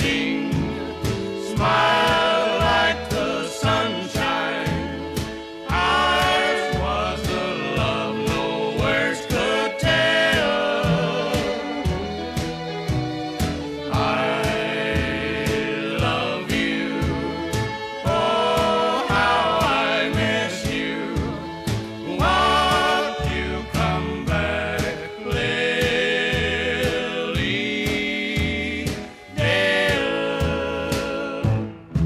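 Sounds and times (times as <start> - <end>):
song with steady beat: 0.0 - 32.0.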